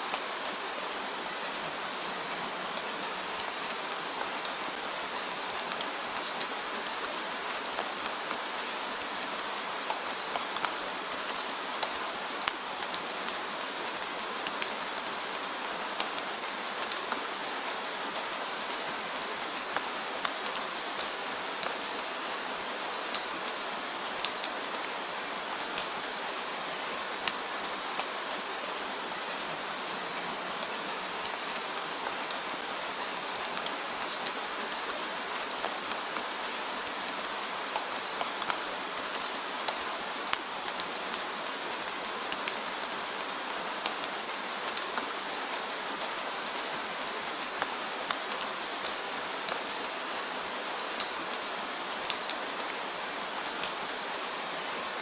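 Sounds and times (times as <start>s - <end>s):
steady rain hiss: 0.0s - 55.0s
raindrops ticking on surface: 0.1s - 55.0s.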